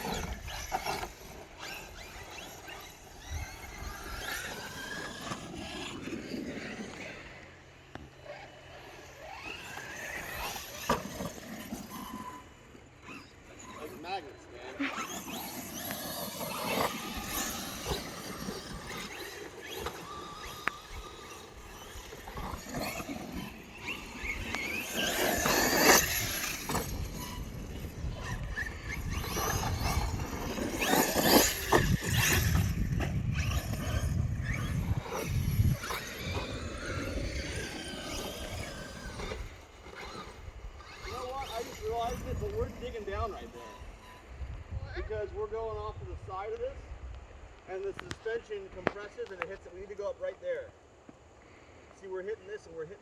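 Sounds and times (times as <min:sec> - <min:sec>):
electric motors whining: 0:00.0 - 0:46.6.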